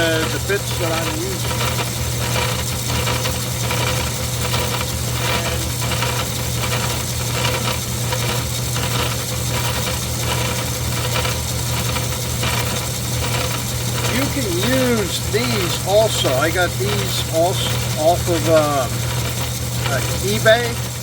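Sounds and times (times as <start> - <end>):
metal lathe running: 0.0 - 21.0
rhythmic rasping: 0.0 - 21.0.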